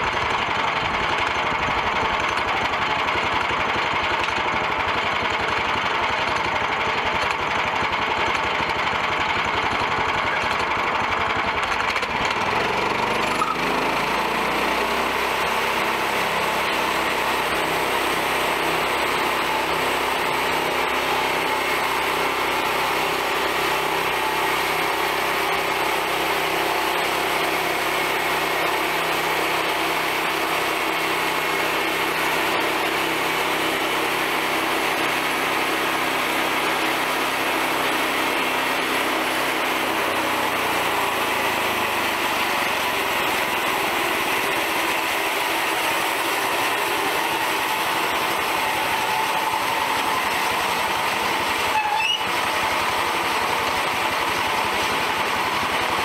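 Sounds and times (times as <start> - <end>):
small gasoline engine running: 0.0 - 56.0
band saw cutting through log: 0.7 - 56.0.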